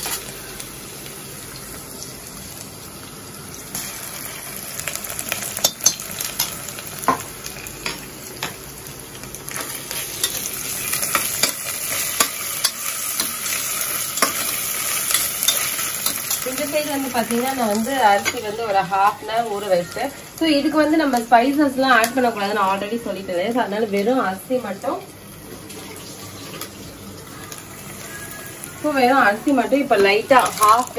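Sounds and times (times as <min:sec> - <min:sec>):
onions sizzling in hot oil: 0:00.0 - 0:30.9.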